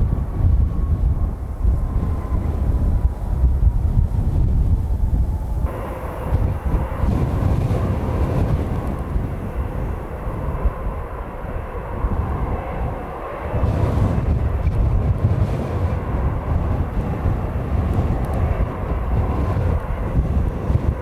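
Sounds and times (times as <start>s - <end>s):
jet engines running: 0.0s - 21.0s
wind buffeting microphone: 0.0s - 21.0s.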